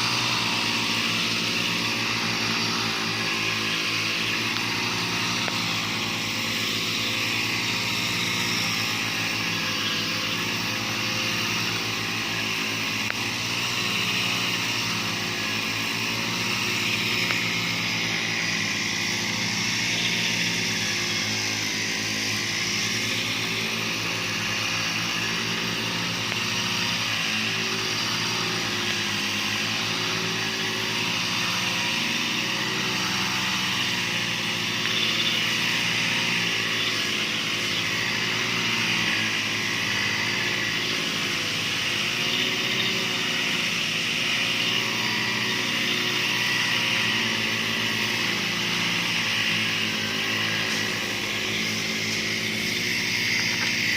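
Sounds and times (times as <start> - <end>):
grass cutter engine whine: 0.0 - 53.9
hiss of cutting grass: 0.0 - 53.9.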